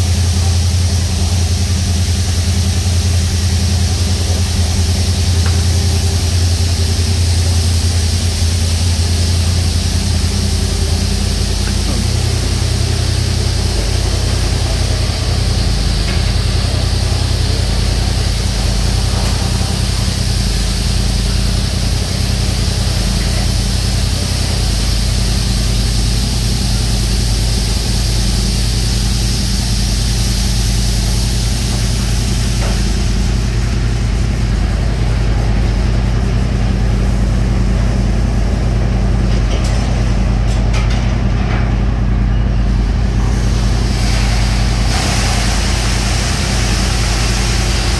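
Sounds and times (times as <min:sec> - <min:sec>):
high-pressure water jets hissing: 0:00.0 - 0:40.5, 0:42.7 - 0:47.9
low mechanical hum: 0:00.0 - 0:47.9.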